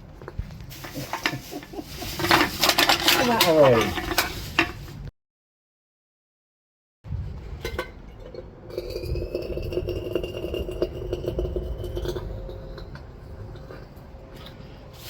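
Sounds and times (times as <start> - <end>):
furnace blower rumbling: 0.0 - 5.1, 7.1 - 15.0.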